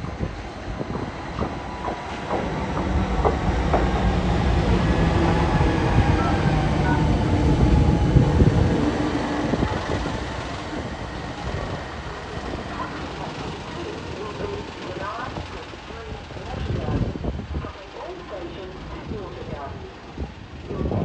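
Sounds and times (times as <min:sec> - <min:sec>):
diesel locomotive engine hum: 0:00.0 - 0:21.0.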